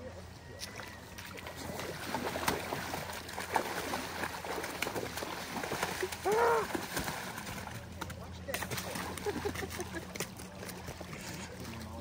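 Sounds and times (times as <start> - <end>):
wading through shallow water: 0.0 - 12.0.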